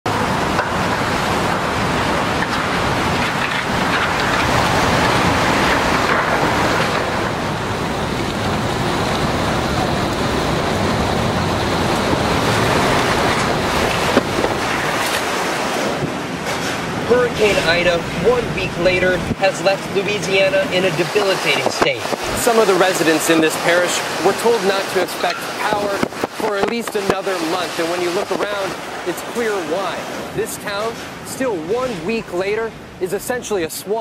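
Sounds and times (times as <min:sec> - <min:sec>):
hurricane wind and rain: 0:00.1 - 0:34.0.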